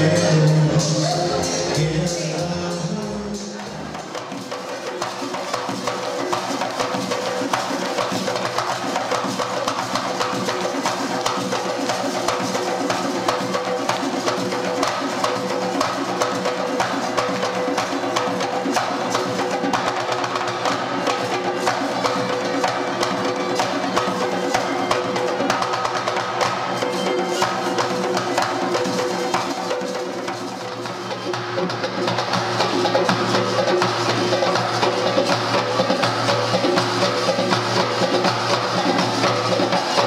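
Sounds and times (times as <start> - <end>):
fast percussion beat: 0.0 - 40.0.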